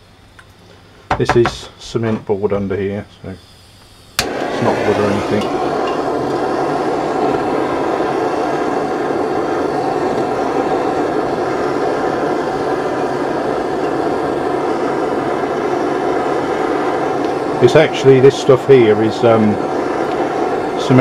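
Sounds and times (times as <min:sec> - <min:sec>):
blowtorch flame roaring: 0:01.9 - 0:21.0.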